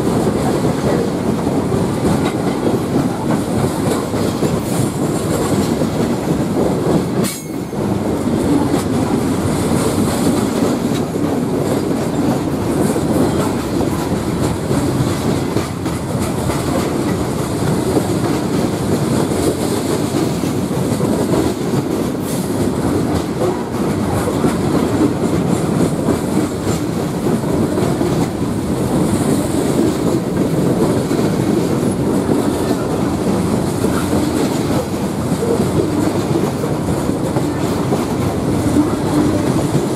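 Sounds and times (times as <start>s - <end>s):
clickety-clack over rail joints: 0.0s - 39.9s
freight train wheels rumbling: 0.0s - 39.9s.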